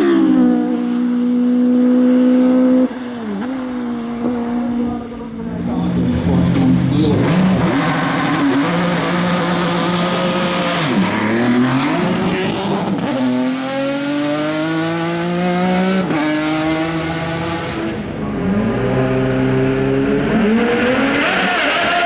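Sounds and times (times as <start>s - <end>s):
race car accelerating hard: 0.0s - 22.0s.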